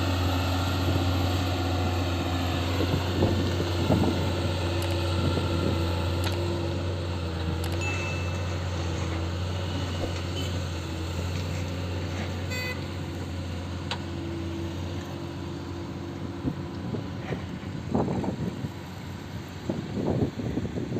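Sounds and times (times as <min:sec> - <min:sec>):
diesel engine humming: 0:00.0 - 0:20.9.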